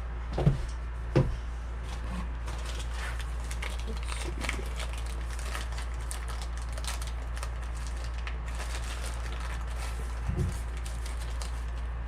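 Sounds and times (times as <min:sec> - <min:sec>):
steady low hum: 0:00.0 - 0:12.0
packaging rustling and crinkling: 0:01.9 - 0:12.0.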